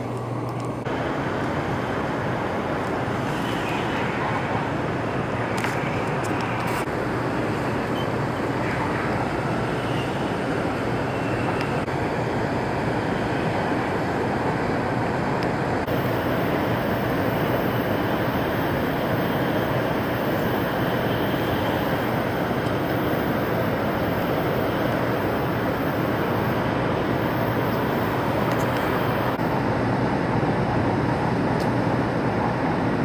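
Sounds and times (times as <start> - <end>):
train interior rumble and hiss: 0.0 - 33.0.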